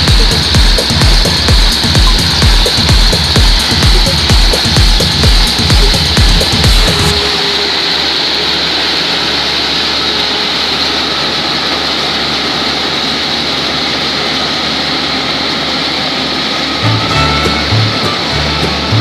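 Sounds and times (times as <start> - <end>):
crawler tractor engines running: 0.0 - 19.0.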